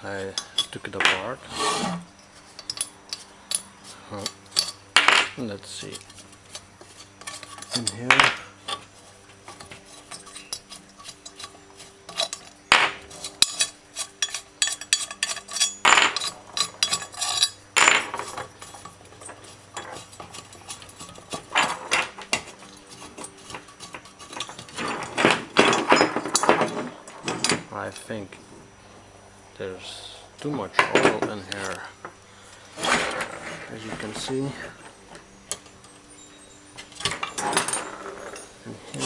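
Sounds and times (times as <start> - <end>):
metal parts clinking: 0.0 - 28.4, 30.2 - 39.0.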